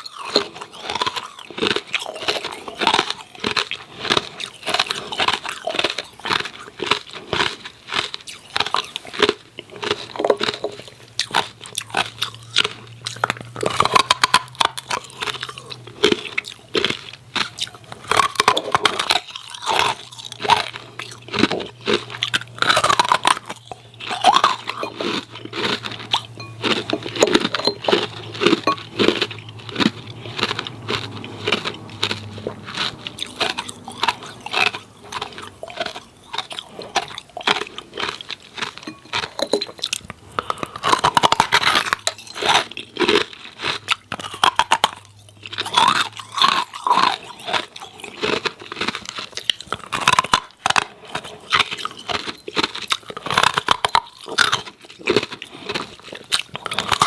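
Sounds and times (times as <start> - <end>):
ice cubes crunched and chewed: 0.0 - 57.0.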